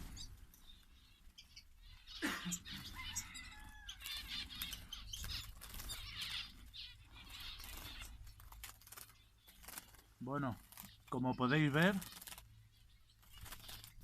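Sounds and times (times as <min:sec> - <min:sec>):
wings fluttering: 0:00.0 - 0:01.4, 0:02.6 - 0:14.0
finches chirping: 0:00.0 - 0:14.0.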